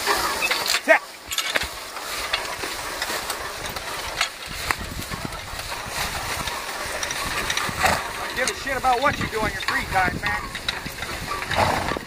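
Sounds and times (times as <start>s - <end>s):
cultivator scraping and rustling: 0.0s - 12.0s.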